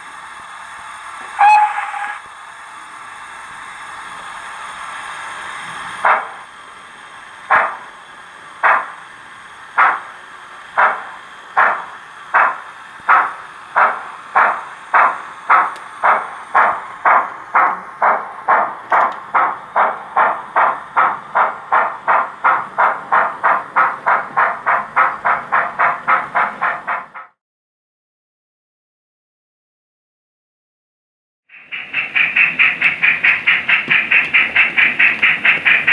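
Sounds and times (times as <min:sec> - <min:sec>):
steam exhaust chuffs from small speaker: 0:00.0 - 0:27.2, 0:31.5 - 0:35.9.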